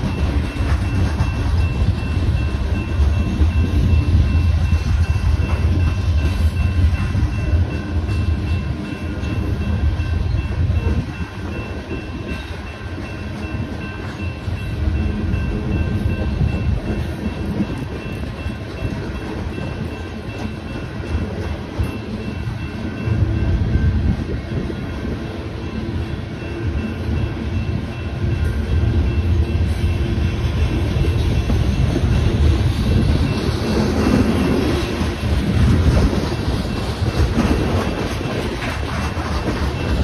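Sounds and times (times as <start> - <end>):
crossing warning bells ringing: 0.0 - 40.0
freight train wheels rumbling: 0.0 - 40.0.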